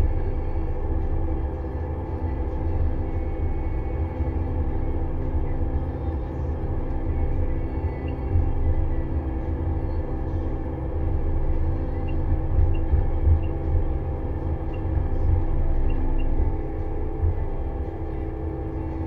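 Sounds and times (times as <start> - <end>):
harvester engine droning: 0.0 - 19.0.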